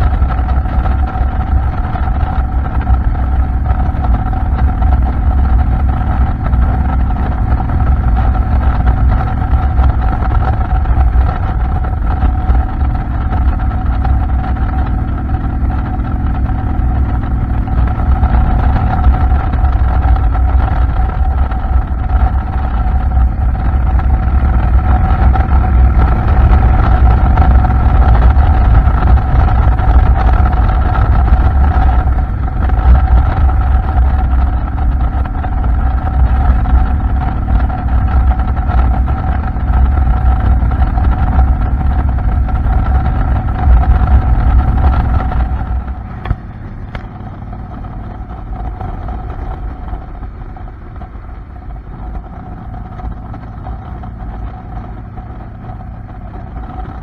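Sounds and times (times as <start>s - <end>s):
wind buffeting on microphone: 0.0s - 55.2s.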